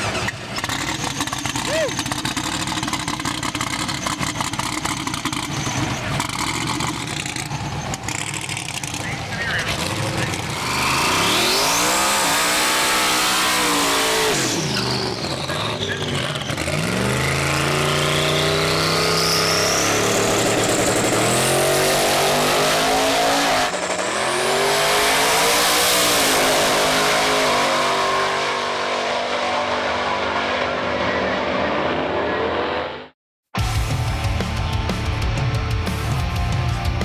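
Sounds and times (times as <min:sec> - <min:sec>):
high turbo whine: 0:00.0 - 0:37.0
race car engine at full throttle: 0:00.0 - 0:37.0.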